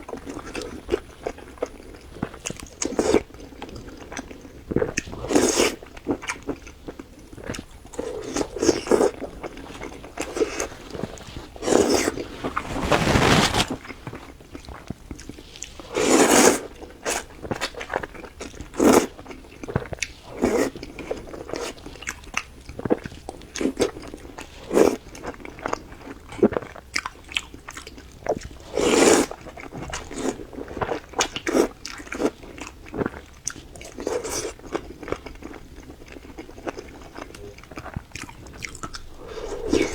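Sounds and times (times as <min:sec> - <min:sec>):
close-miked chewing: 0:00.0 - 0:12.6, 0:14.2 - 0:39.9.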